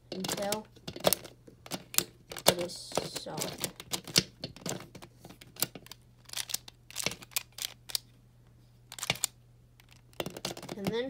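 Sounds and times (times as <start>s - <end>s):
plastic puzzle clicking: 0.1s - 8.0s, 8.9s - 10.9s.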